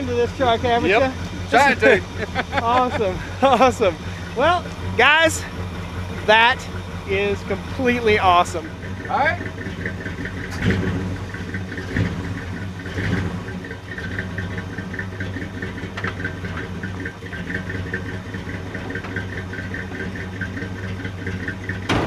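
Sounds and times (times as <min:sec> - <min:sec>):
engine knocks: 0:00.0 - 0:22.0
rapid engine ticking: 0:00.0 - 0:22.0
truck engine running: 0:00.0 - 0:22.0.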